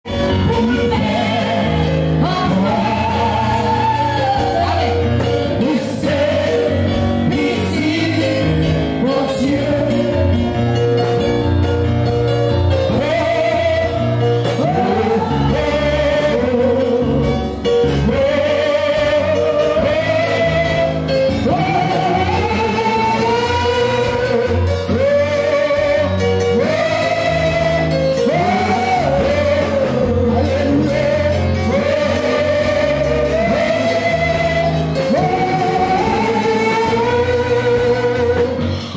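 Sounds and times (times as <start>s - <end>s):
bass line: 0.0s - 38.9s
congregation singing worship song: 0.0s - 38.9s
instrumental backing: 0.0s - 38.9s.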